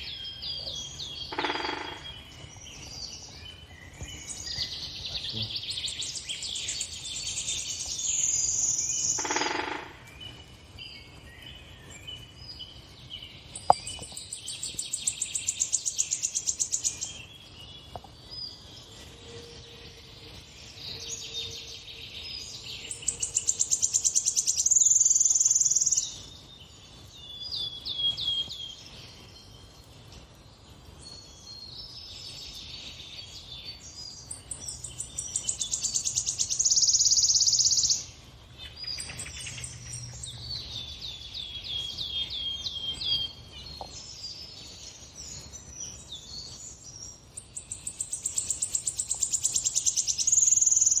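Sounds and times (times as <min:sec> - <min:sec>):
songbirds trilling and chirping: 0:00.0 - 0:51.0.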